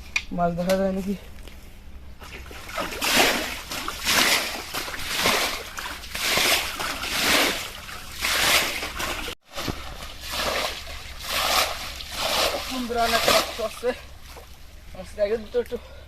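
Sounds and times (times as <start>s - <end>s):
water splashing and sloshing: 2.2s - 16.0s.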